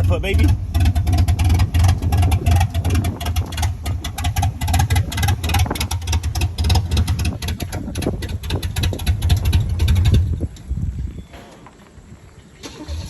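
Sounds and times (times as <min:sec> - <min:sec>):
truck engine pulsing idle: 0:00.0 - 0:13.0.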